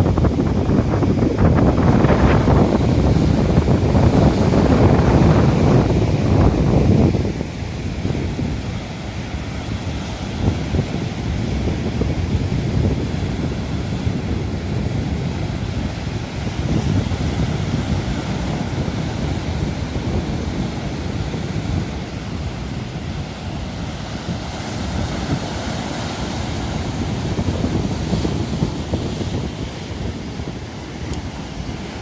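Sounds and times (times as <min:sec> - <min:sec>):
surf breaking on shore: 0:00.0 - 0:32.0
wind buffeting microphone: 0:00.0 - 0:32.0.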